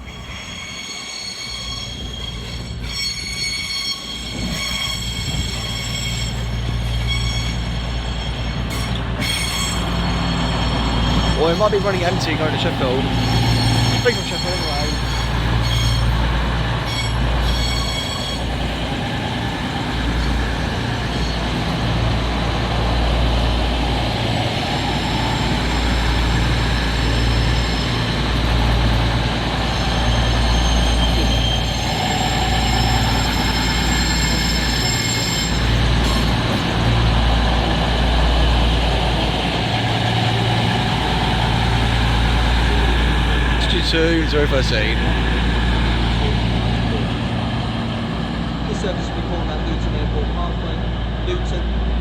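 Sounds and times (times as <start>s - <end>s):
diesel train engines rumbling: 0.0s - 52.0s.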